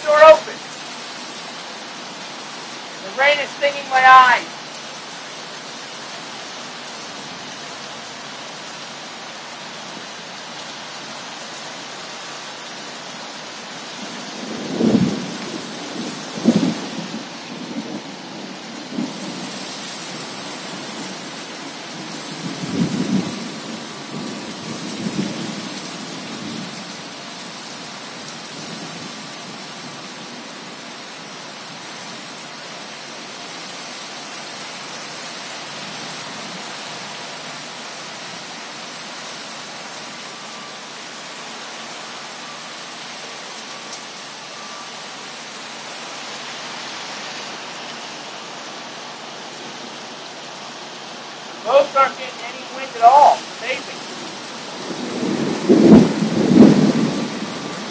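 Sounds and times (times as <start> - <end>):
heavy rain on pool: 0.0 - 57.9.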